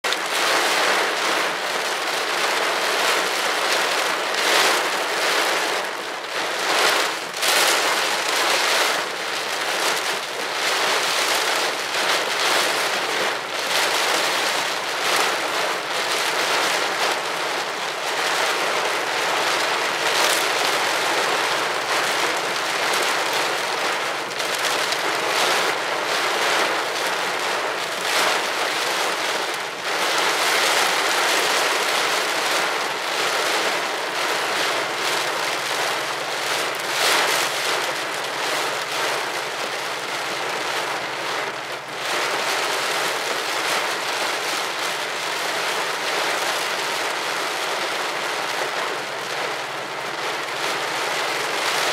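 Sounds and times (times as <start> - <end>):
heavy rain on car roof: 0.0 - 51.9.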